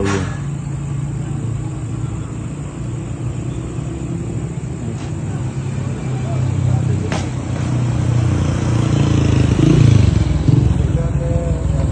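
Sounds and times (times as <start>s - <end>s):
road rumble: 0.0s - 11.9s
vehicle motor humming: 0.0s - 11.9s.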